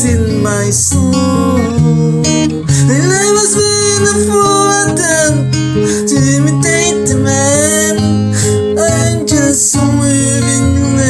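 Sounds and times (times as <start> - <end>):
gliding melodic line: 0.0 - 11.0
strummed acoustic guitar chords: 0.0 - 11.0.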